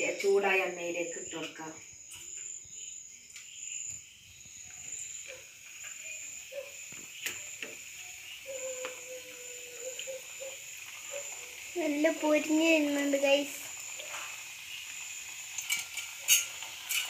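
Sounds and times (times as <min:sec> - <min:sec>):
dough frying in hot oil: 0:00.0 - 0:17.0.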